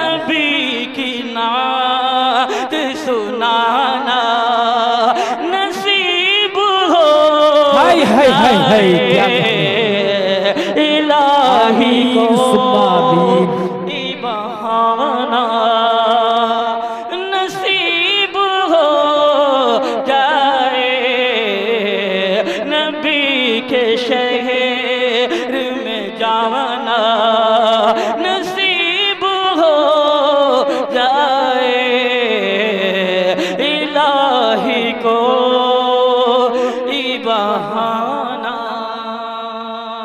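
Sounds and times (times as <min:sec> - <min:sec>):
man singing devotional poem: 0:00.0 - 0:40.0.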